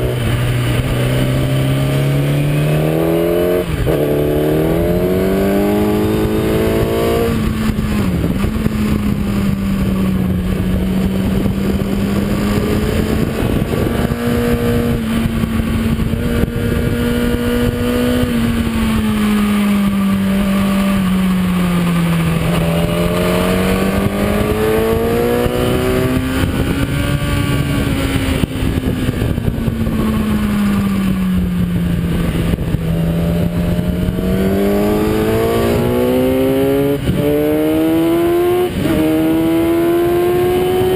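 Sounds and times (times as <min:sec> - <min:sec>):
motorcycle engine revving: 0:00.0 - 0:40.9
wind rush: 0:00.0 - 0:40.9.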